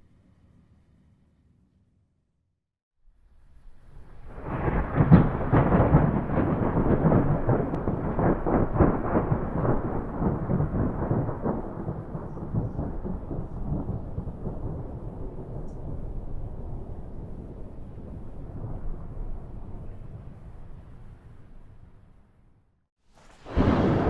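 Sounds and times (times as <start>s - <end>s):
thunder rumbling: 3.7s - 22.4s, 23.1s - 24.0s.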